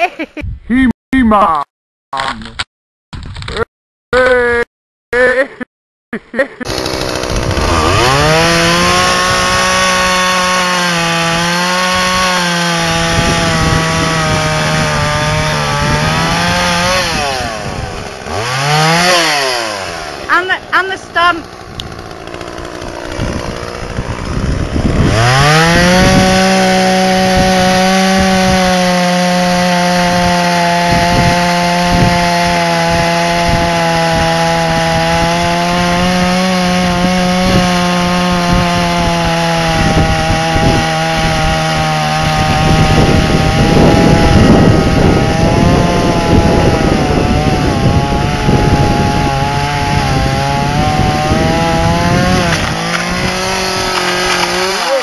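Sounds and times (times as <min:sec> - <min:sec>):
chainsaw cutting wood: 0:06.6 - 0:55.0
chainsaw revving: 0:06.6 - 0:55.0.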